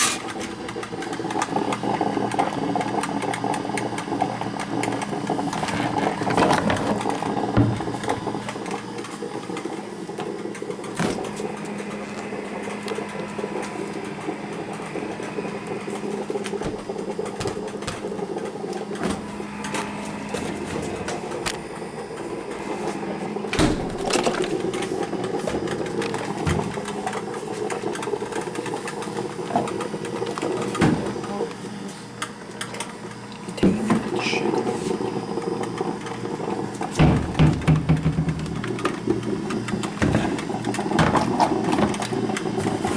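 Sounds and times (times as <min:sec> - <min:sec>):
coffee maker humming: 0:00.0 - 0:42.9.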